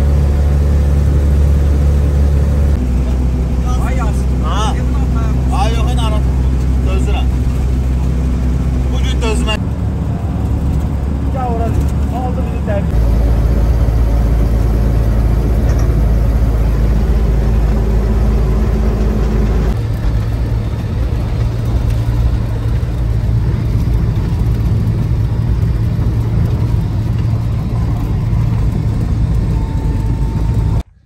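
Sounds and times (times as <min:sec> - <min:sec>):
van engine droning: 0:00.0 - 0:31.0.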